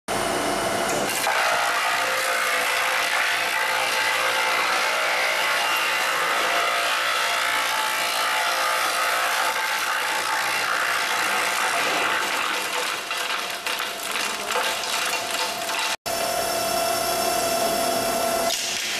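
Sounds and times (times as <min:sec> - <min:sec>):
wood chipper running: 0:00.1 - 0:18.9.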